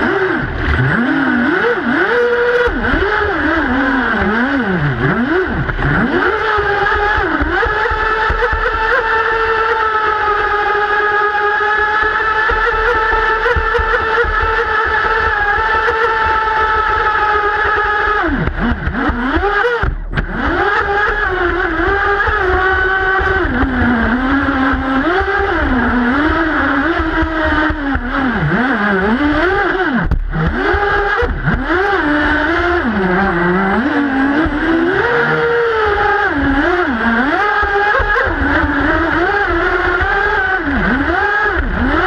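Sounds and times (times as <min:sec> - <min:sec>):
boat motors running: 0:00.0 - 0:42.0.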